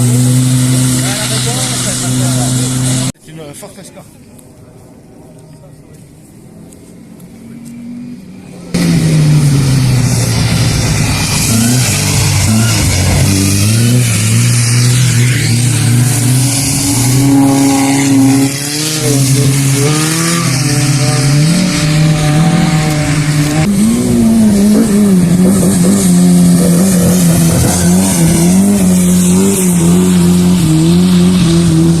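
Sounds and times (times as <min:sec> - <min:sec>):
rally car engine revving: 0:00.0 - 0:03.2, 0:06.7 - 0:32.0.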